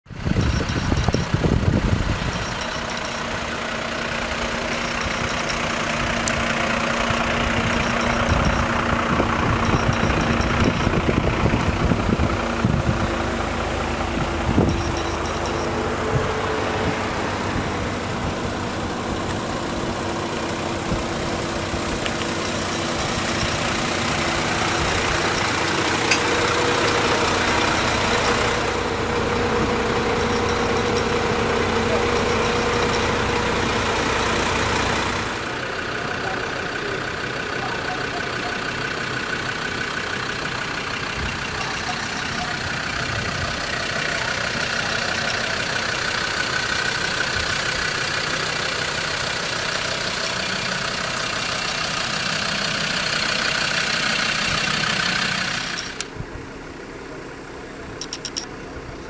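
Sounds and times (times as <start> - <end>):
diesel engines idling: 0.0 - 59.0.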